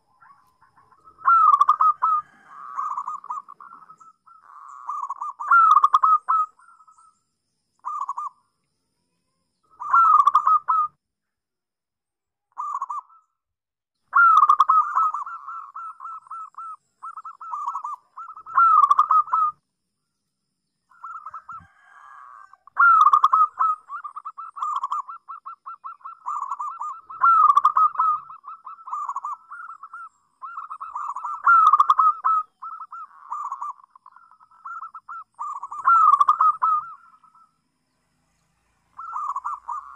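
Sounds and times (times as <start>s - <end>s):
dove cooing: 0.0s - 7.1s, 7.8s - 8.4s, 9.7s - 10.9s, 12.6s - 13.2s, 14.1s - 19.6s, 20.9s - 37.5s, 39.0s - 39.9s.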